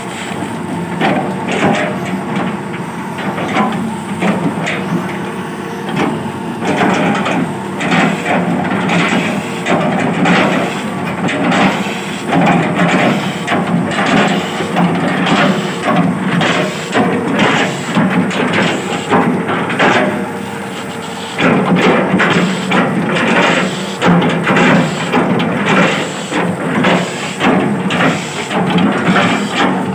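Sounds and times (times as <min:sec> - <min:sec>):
excavator diesel engine under load: 0:00.0 - 0:29.9.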